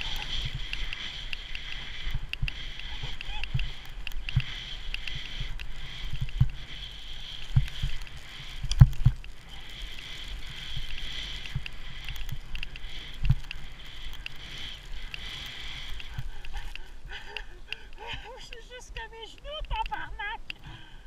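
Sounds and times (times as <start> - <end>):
skis hissing through snow: 0.0 - 21.0.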